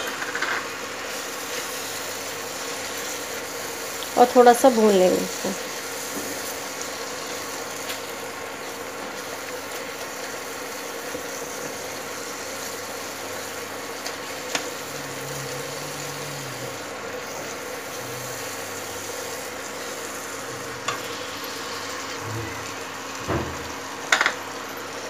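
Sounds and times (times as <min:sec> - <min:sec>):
masala sizzling in oil: 0:00.0 - 0:25.0.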